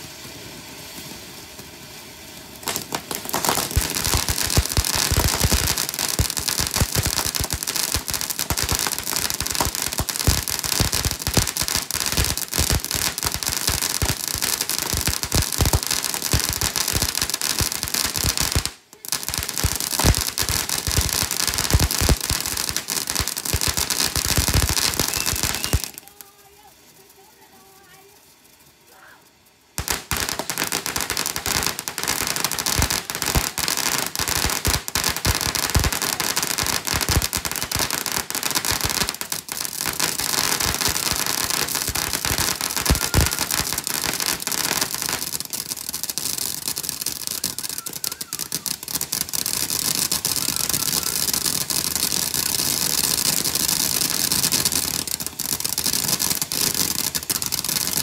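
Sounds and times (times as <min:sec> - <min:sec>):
firework fountain hissing and crackling: 0:00.0 - 0:58.0
firework pops: 0:02.6 - 0:26.2, 0:29.8 - 0:33.6, 0:34.2 - 0:58.0.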